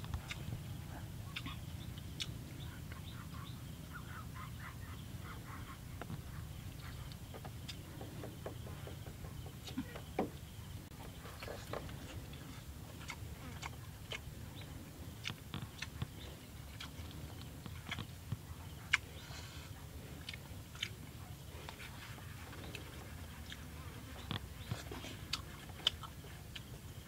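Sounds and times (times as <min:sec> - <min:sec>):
man chewing with mouth clicks: 0:00.0 - 0:03.4, 0:05.4 - 0:10.0, 0:10.9 - 0:27.0
low background hum: 0:00.0 - 0:27.0.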